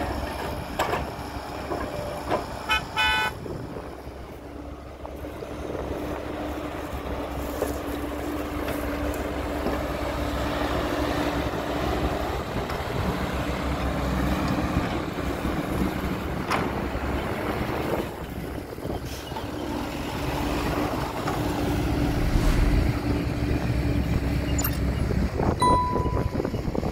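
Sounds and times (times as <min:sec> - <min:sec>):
diesel machinery engine hum: 0:00.0 - 0:26.9.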